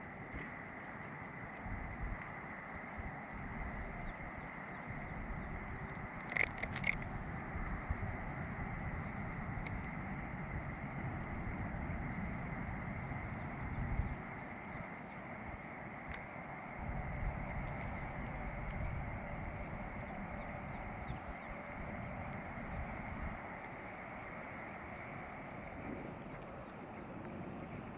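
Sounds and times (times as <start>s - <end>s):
footsteps on a trail: 0.0s - 27.9s
chirps: 0.4s - 27.0s.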